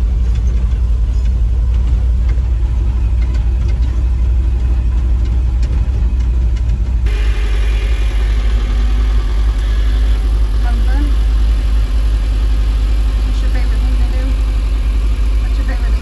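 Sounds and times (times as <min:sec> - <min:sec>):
rattle and high-pitched noise: 0:00.0 - 0:16.0
truck engine rumbling: 0:00.0 - 0:16.0.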